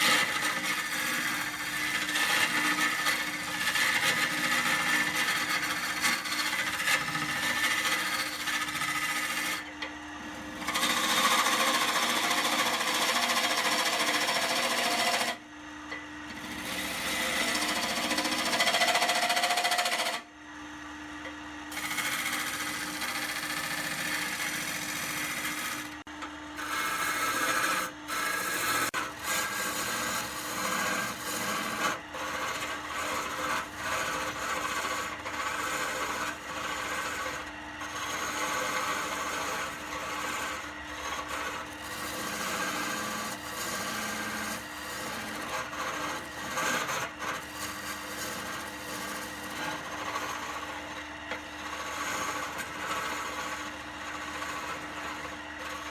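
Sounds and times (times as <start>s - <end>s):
lathe motor hum: 0.0s - 55.9s
turning tool cutting spinning wood: 0.0s - 55.9s.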